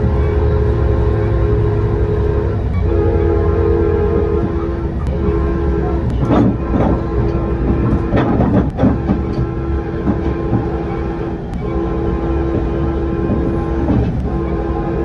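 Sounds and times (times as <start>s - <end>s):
locomotive horn chord: 0.0s - 15.0s
train rumble inside coach: 0.0s - 15.0s
wheels clanking over rail joints: 0.0s - 15.0s.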